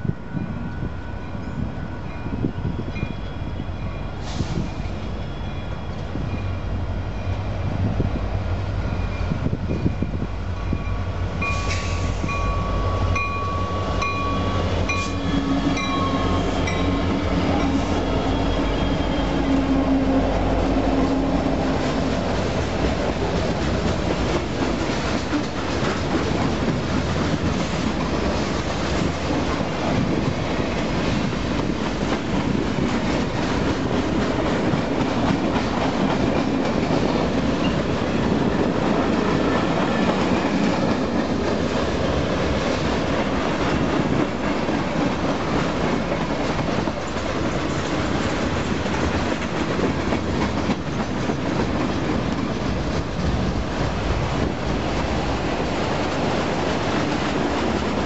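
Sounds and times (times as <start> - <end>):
diesel locomotives rumbling: 0.0 - 58.0.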